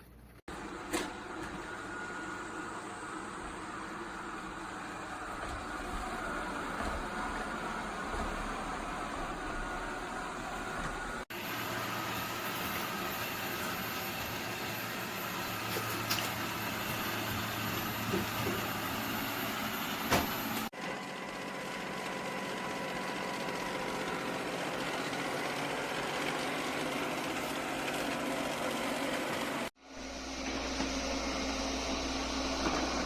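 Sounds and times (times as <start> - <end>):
robot vacuum whirring hum: 0.5 - 33.0.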